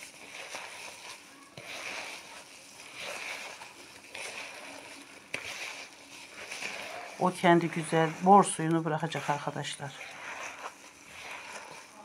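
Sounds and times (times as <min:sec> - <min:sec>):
hands squishing petals with sugar: 0:00.0 - 0:12.0.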